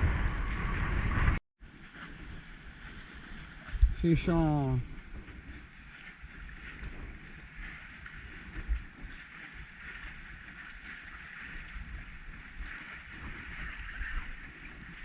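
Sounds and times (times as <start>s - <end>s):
water washing against kayak: 0.0s - 15.0s
wind buffeting microphone: 0.0s - 15.0s.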